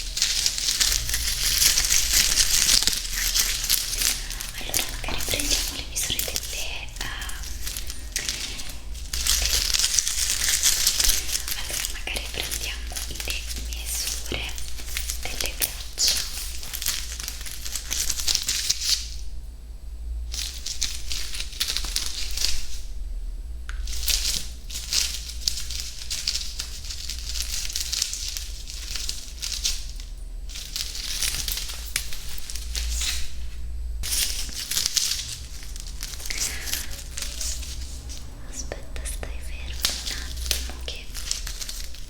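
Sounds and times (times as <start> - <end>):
close-up crinkling and crackling: 0.0 - 19.2, 20.3 - 23.0, 23.7 - 42.0.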